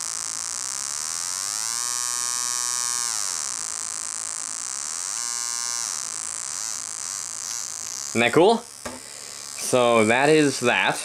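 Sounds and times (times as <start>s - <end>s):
buzzy electronic tone sweeping: 0.0s - 11.0s.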